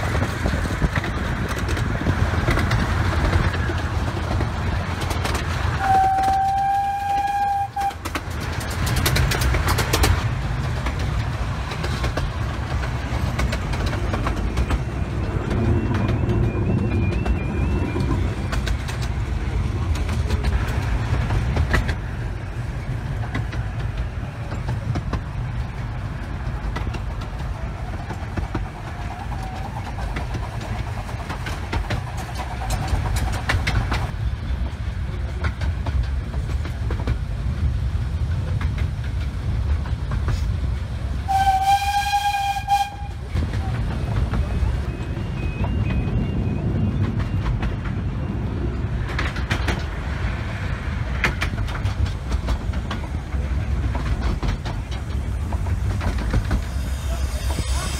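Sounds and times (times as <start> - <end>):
rail joint clicks: 0.0 - 57.9
wheels rumbling on track: 0.0 - 57.9.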